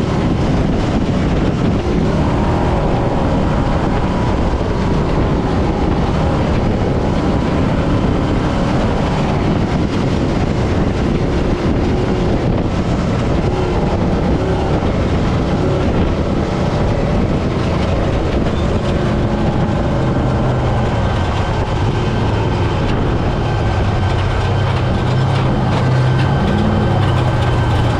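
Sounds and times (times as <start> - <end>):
truck driving off-road: 0.0 - 27.9.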